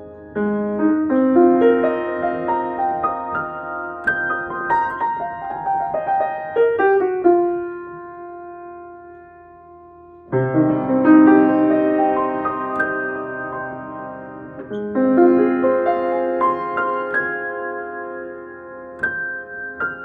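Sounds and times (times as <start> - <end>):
solo piano playing: 0.0 - 20.0.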